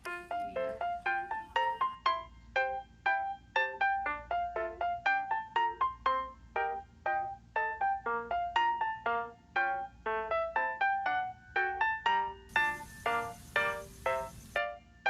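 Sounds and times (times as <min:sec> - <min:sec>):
light keyboard melody: 0:00.0 - 0:15.0.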